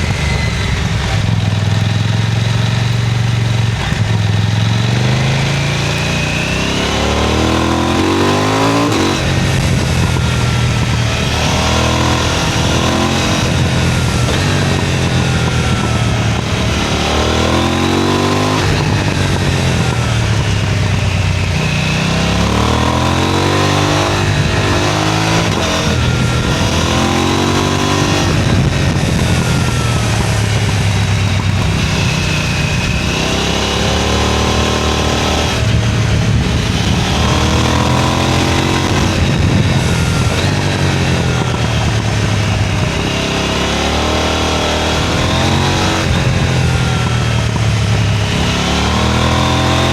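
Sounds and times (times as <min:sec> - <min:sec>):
motorcycle engine accelerating hard: 0:00.0 - 0:49.9.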